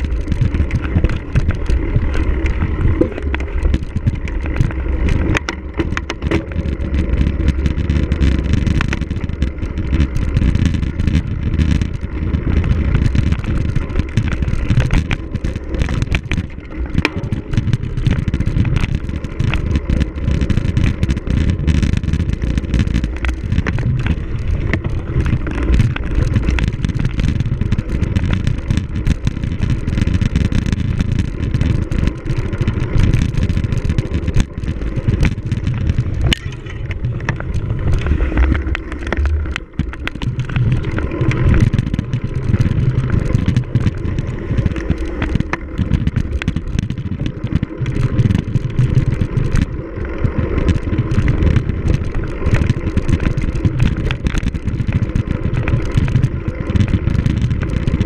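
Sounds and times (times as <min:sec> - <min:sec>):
bike rattling and knocking: 0:00.0 - 0:58.0
wind on microphone: 0:00.0 - 0:58.0.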